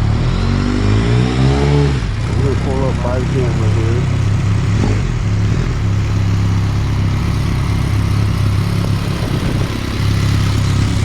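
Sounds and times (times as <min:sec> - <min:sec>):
motorcycle engine idling: 0:00.0 - 0:00.7, 0:02.0 - 0:11.0.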